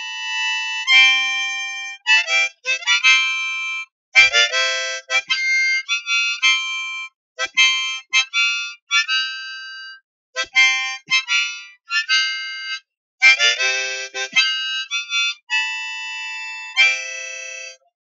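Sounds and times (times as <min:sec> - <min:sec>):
harmonica melody: 0:00.0 - 0:17.9.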